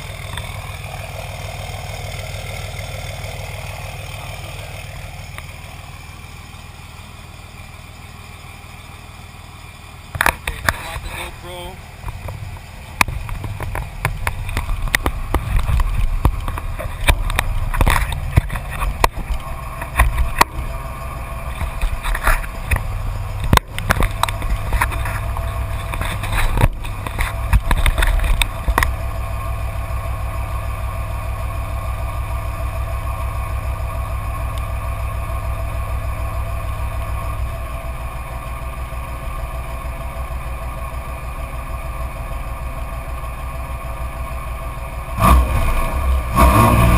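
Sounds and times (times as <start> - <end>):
loud diesel engine running: 0.0 - 46.9.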